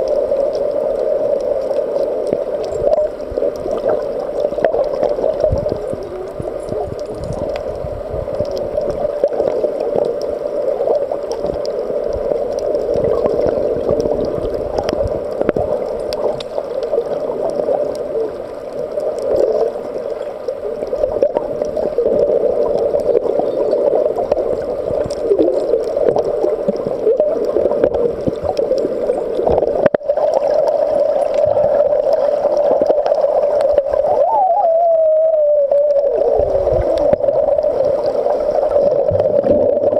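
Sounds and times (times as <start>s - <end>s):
gurgling and crackling water: 0.0s - 39.9s
underwater drone: 0.0s - 39.9s.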